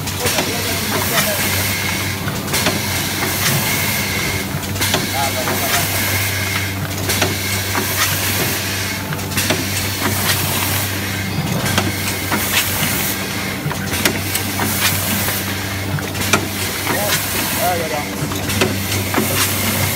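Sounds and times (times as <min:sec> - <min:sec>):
machine humming: 0:00.0 - 0:19.9.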